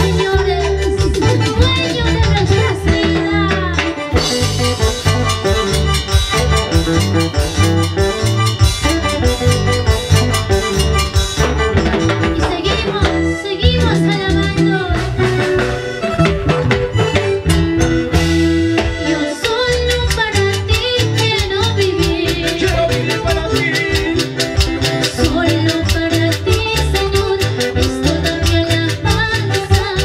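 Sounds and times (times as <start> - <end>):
drum kit steady beat: 0.0 - 30.0
electric bass: 0.0 - 30.0
guitar: 0.0 - 30.0
keyboard: 0.0 - 30.0.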